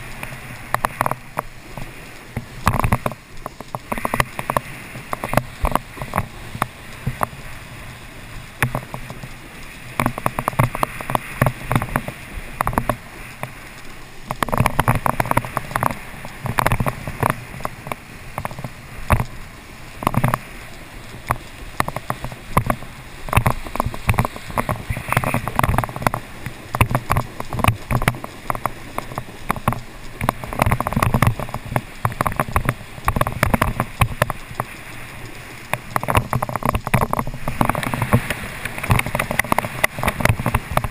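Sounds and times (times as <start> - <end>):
board slapping water: 0.0 - 40.9
water rushing and spraying: 0.0 - 40.9.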